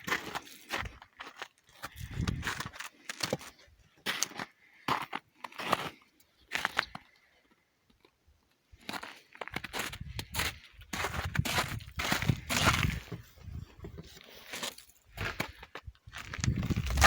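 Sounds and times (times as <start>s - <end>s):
crunching footsteps: 0.0s - 7.2s, 8.8s - 17.0s.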